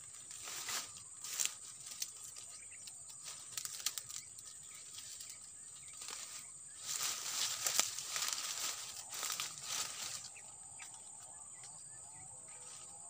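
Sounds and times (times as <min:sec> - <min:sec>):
dry leaves and net rustling: 0:00.0 - 0:13.0.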